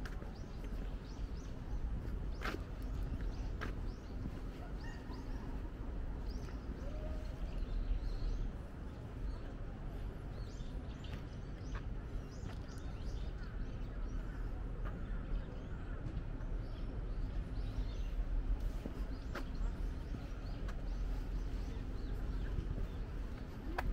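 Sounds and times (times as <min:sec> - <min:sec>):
steady low rumble: 0:00.0 - 0:23.9.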